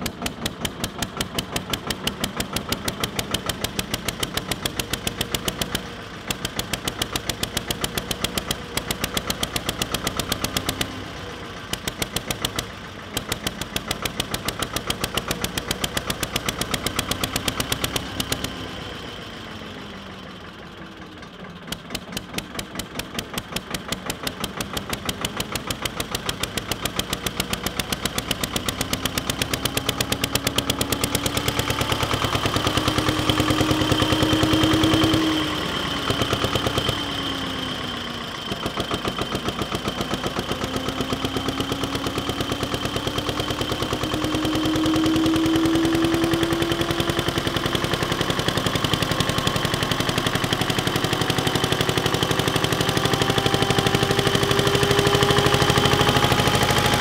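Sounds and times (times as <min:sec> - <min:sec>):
diesel generator engine running: 0:00.0 - 0:57.0.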